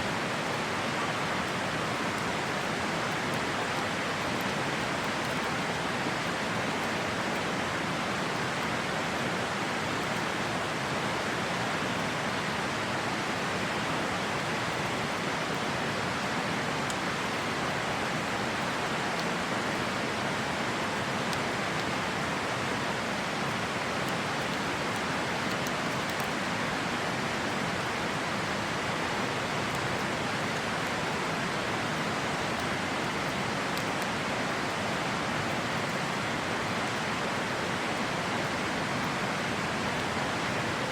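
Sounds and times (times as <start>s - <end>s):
campfire crackles: 0.0s - 40.9s
river rushing: 0.0s - 40.9s.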